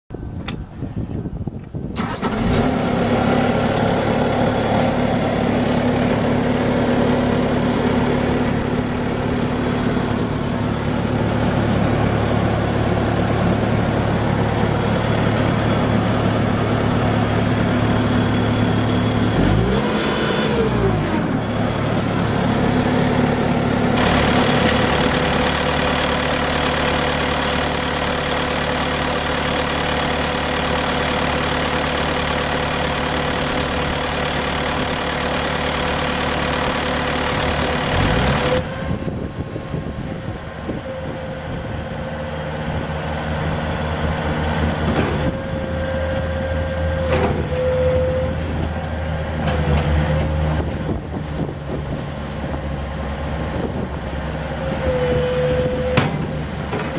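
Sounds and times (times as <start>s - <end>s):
diesel engine running with whine: 0.1s - 56.9s.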